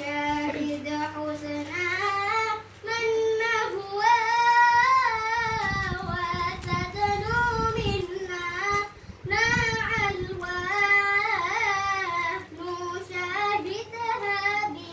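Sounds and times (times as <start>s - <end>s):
child singing: 0.0s - 14.9s.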